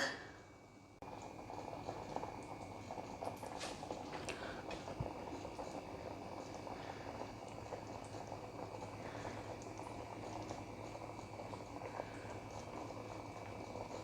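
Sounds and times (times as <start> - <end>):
low steady hum: 0.0 - 14.0
gravy bubbling in a pan: 0.5 - 14.0.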